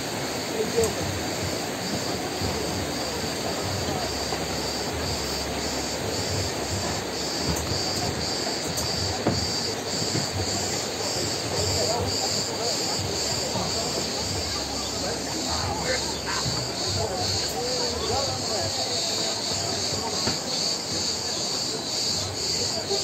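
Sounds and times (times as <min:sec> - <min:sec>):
cicadas chorus: 0:00.0 - 0:23.0
river rushing over rocks: 0:00.0 - 0:23.0.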